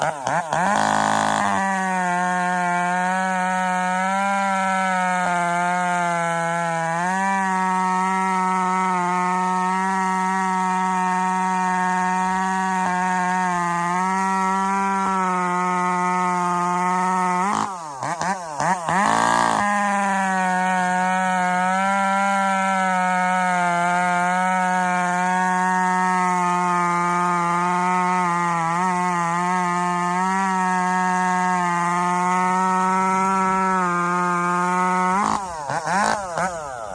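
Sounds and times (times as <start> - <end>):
chainsaw running at high speed: 0.0 - 36.9.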